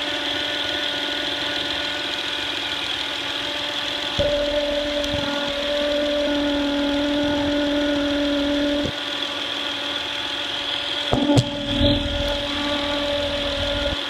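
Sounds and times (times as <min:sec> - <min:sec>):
alternator whine: 0:00.0 - 0:14.0
car engine idling: 0:00.0 - 0:14.0.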